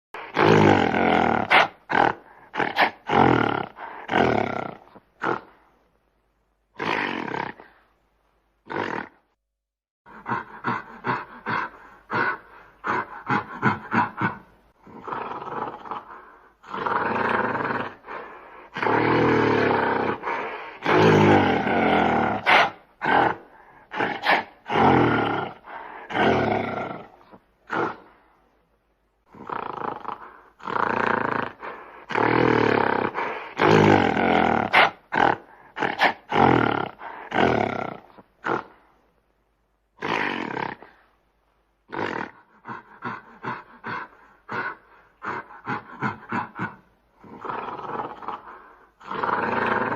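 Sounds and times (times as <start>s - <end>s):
gorilla roaring: 0.2s - 5.5s, 8.6s - 9.2s, 10.1s - 28.1s, 29.3s - 38.8s, 40.0s - 40.9s, 41.9s - 49.9s
gorilla grunts: 0.3s - 5.5s, 10.1s - 18.1s, 18.7s - 28.1s, 29.3s - 38.8s, 41.9s - 49.9s.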